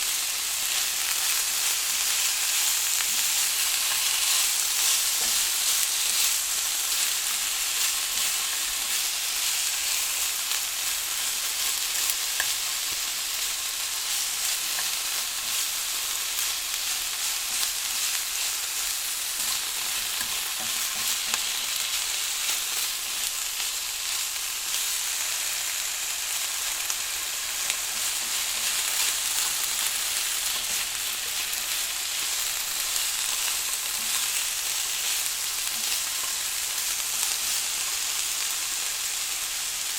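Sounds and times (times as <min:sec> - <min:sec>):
oil crackling and popping: 0:00.0 - 0:39.9
vegetables sizzling in hot oil: 0:00.0 - 0:39.9.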